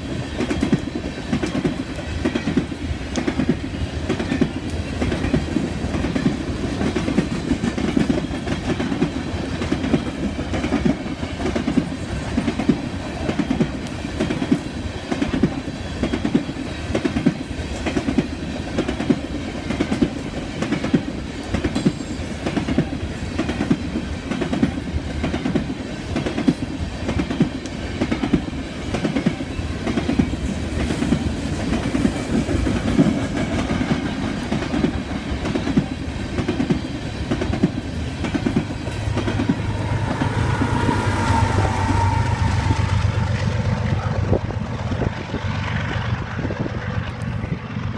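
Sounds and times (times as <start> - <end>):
rail cars rolling past: 0.0 - 47.9
wheels clacking over rail joints: 0.3 - 45.4.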